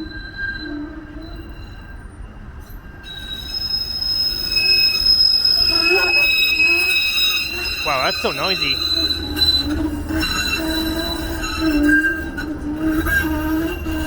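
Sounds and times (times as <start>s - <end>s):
streetcar wheels squealing on rails: 0.0s - 14.0s.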